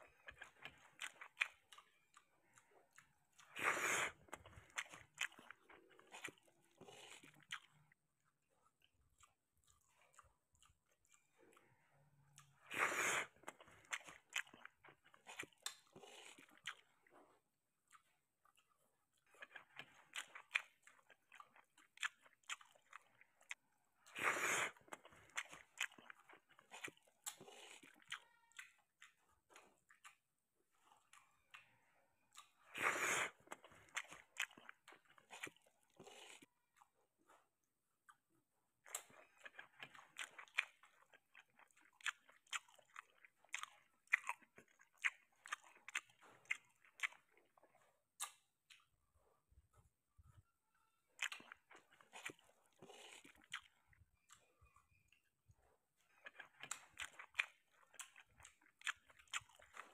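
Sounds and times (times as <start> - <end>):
wet chewing and lip-smacking: 0.0 - 59.9.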